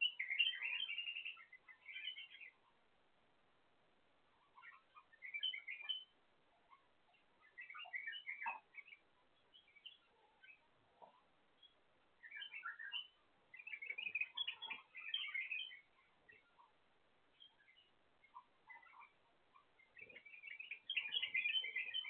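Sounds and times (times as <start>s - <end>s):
bulbuls chirping softly: 0.0s - 22.0s.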